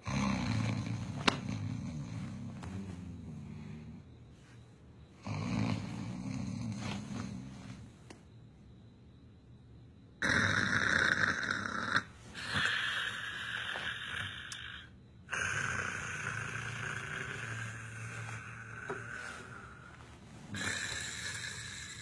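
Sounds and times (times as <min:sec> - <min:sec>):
person snoring: 0:00.0 - 0:04.0, 0:05.2 - 0:07.9, 0:10.2 - 0:22.0.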